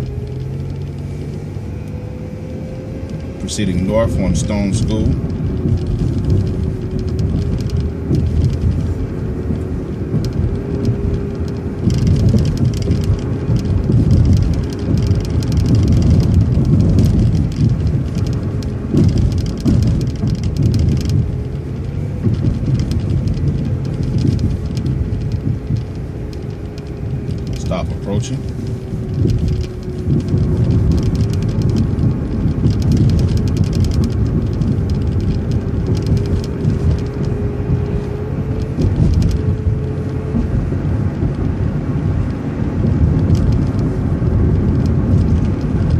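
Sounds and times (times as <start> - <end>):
bus engine and road rumble: 0.0 - 45.9
drivetrain whine: 0.0 - 45.9.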